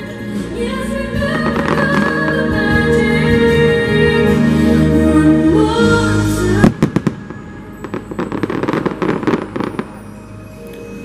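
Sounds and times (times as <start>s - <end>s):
music with sustained chords: 0.0s - 11.0s.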